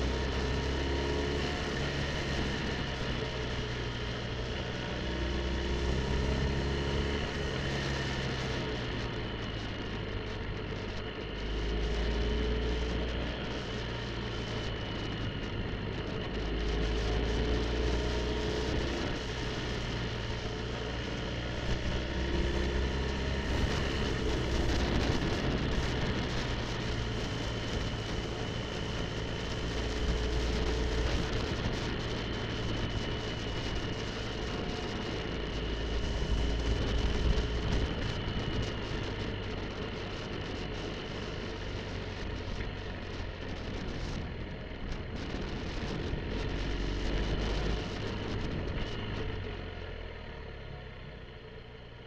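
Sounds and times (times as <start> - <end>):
motorcycle engine running: 0.0 - 52.0
wind and tyre noise: 0.0 - 52.0.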